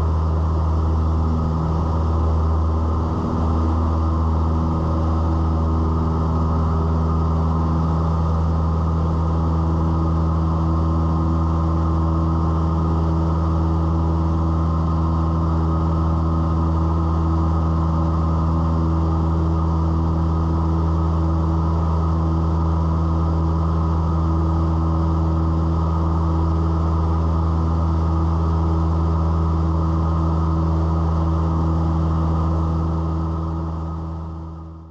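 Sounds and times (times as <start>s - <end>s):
airplane engine drone in cabin: 0.0s - 34.9s.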